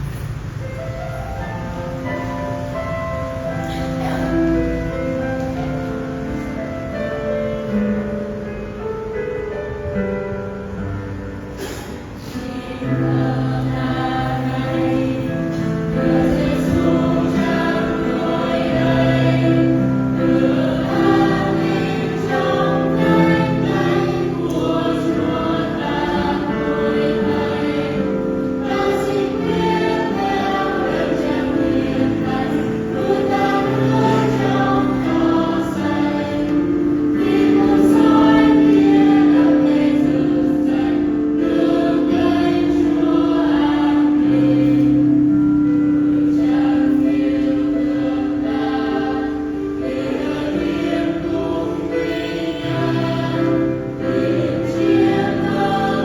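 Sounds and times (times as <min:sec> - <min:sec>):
youth choir singing a hymn: 0:02.0 - 0:09.2, 0:10.3 - 0:56.0.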